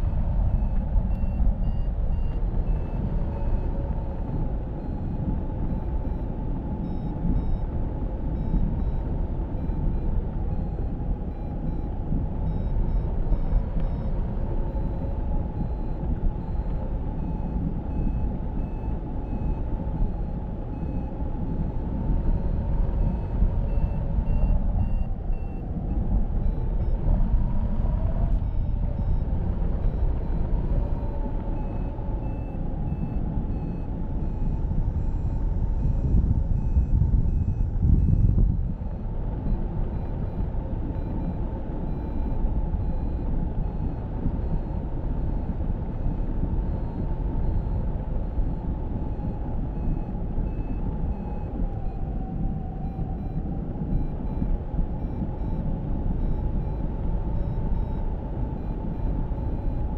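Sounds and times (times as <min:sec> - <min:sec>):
wind roar on microphone: 0:00.0 - 0:59.9.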